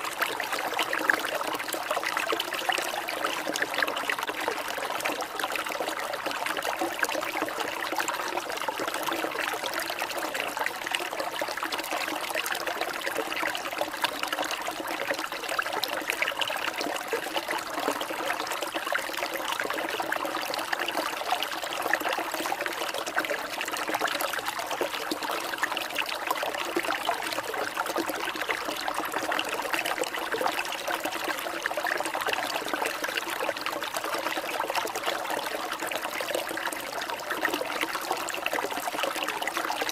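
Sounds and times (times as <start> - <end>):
trickling babbling water: 0.0 - 39.9.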